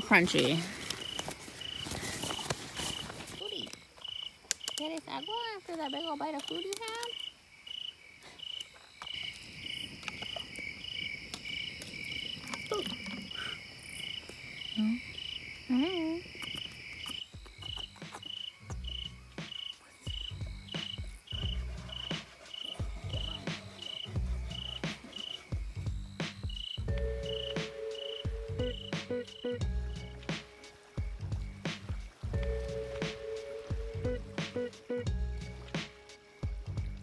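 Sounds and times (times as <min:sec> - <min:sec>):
crickets chirping: 0:00.0 - 0:37.0
fast insect trill: 0:00.1 - 0:32.2.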